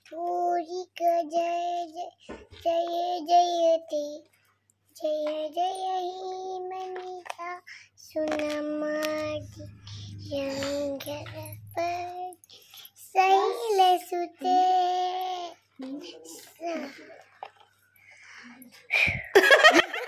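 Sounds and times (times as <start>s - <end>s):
girl singing: 0.0s - 4.3s, 4.9s - 17.2s.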